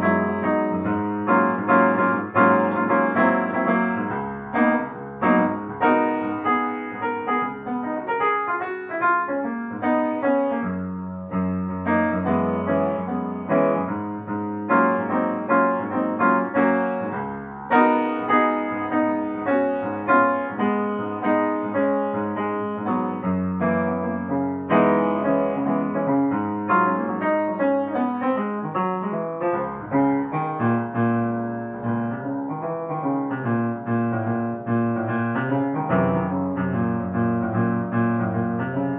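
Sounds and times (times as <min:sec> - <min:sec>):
background piano music: 0:00.0 - 0:38.9.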